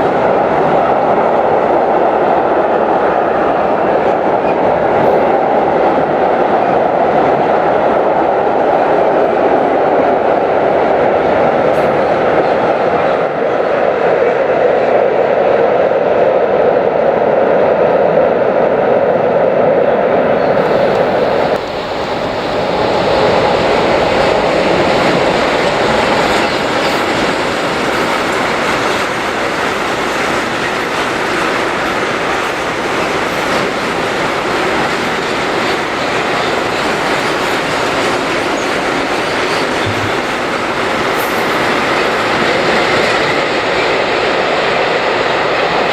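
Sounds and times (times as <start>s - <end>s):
train wheels rolling on rail: 0.0s - 45.9s.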